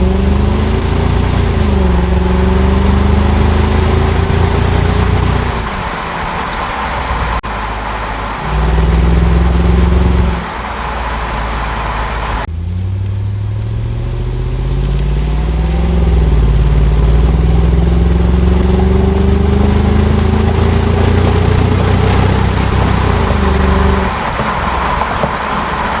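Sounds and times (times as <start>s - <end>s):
car exhaust under acceleration: 0.0s - 26.0s.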